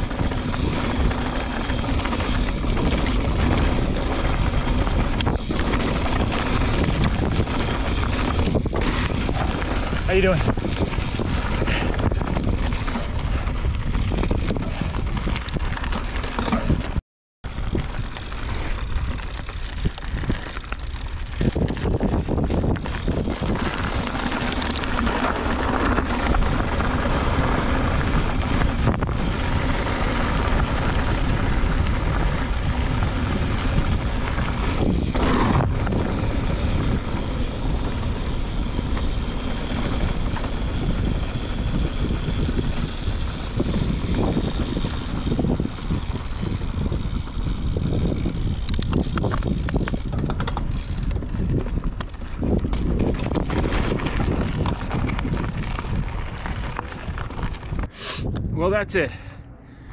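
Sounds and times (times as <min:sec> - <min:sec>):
wind rushing over microphone: 0:00.0 - 0:59.2
bike clicking and rattling: 0:00.0 - 0:59.9.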